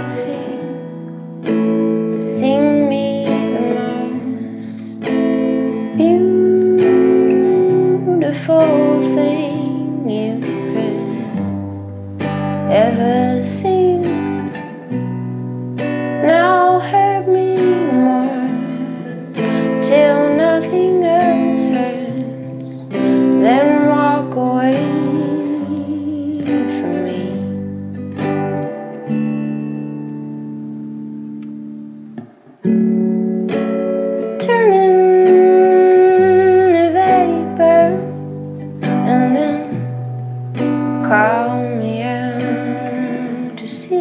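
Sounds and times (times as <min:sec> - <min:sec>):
woman singing: 0:00.0 - 0:01.1, 0:02.0 - 0:15.1, 0:15.9 - 0:27.7, 0:34.3 - 0:44.0
guitar accompaniment: 0:00.0 - 0:44.0.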